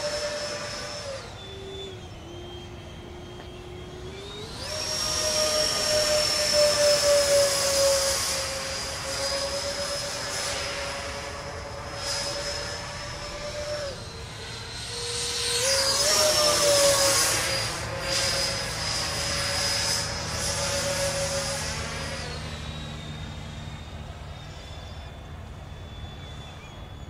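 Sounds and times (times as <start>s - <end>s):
electric ducted fans whining: 0.0s - 27.0s.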